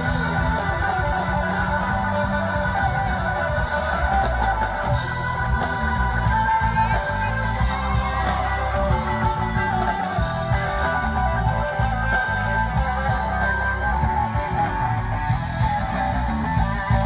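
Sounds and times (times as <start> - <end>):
bass line: 0.0 - 17.0
guitars: 0.0 - 17.0.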